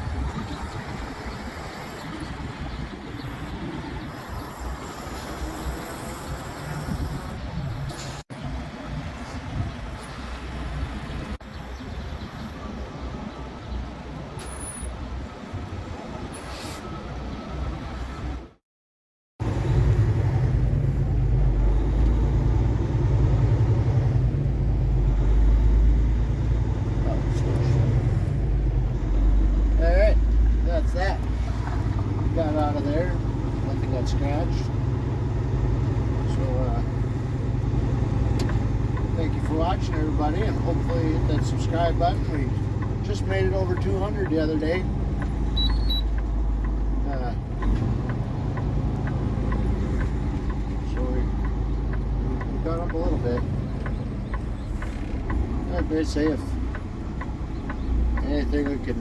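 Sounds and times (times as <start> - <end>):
truck diesel engine rumbling: 0.0 - 18.6, 19.4 - 59.0.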